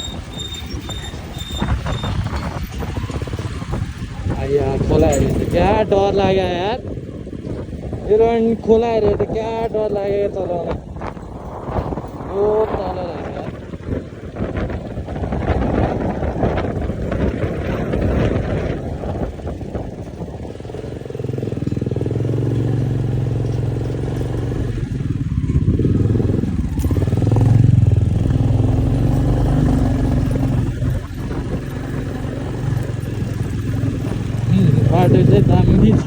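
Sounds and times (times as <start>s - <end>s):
motorcycle engine running: 0.0s - 36.0s
road noise: 0.0s - 36.0s
wind noise: 0.0s - 36.0s.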